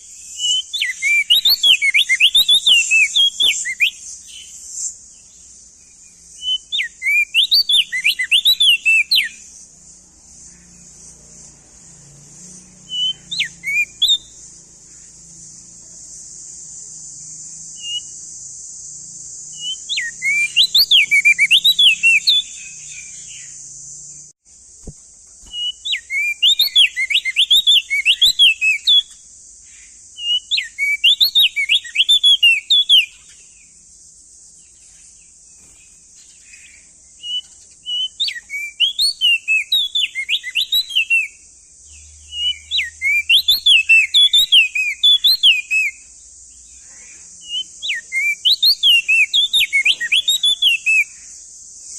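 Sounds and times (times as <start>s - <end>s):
bird singing whistled notes: 0.0s - 24.8s, 25.4s - 51.9s
steady high hiss: 0.0s - 51.9s.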